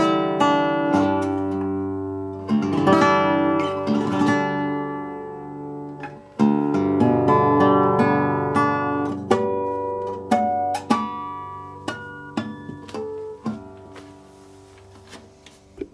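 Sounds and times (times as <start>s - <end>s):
plucked guitar notes: 0.0s - 14.3s.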